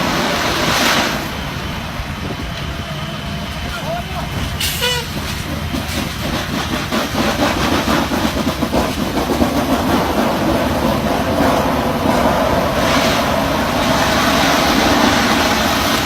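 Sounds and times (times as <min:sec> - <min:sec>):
drilling rig machinery din: 0:00.0 - 0:16.0.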